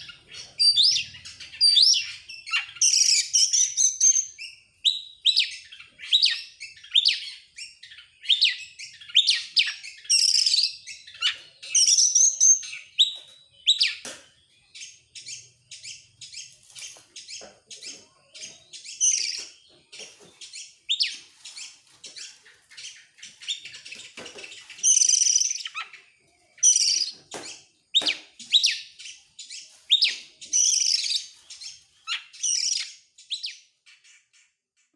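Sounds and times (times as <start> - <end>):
bird singing chirps and whistles: 0.0 - 19.8, 20.4 - 34.2.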